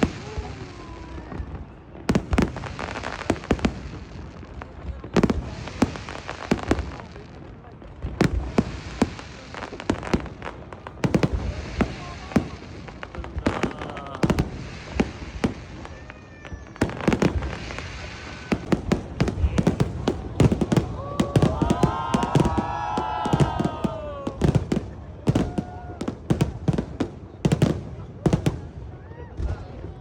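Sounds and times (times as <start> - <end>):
crackling fireworks reports: 0.0 - 30.0
fireworks bangs: 0.0 - 30.0.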